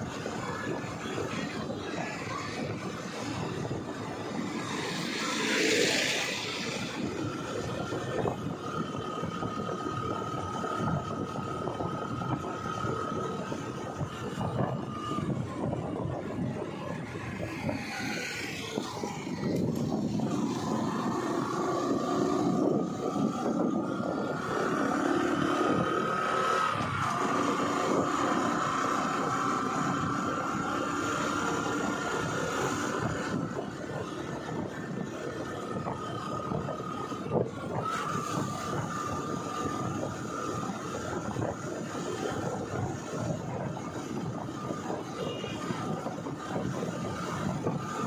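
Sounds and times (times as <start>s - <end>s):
motorbike engine whine: 0.0s - 48.0s
wind and tyre rush: 0.0s - 48.0s.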